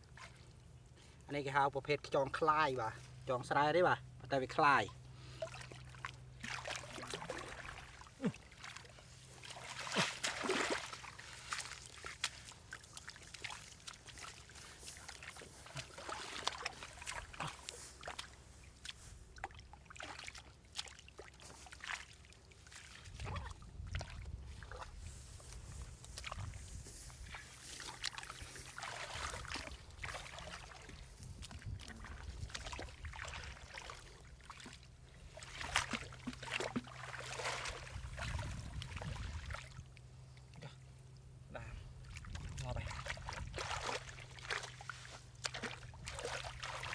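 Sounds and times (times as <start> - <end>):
shallow water sloshing: 0.0 - 1.3, 4.0 - 46.9
small water splashes: 0.0 - 1.3, 4.8 - 46.9.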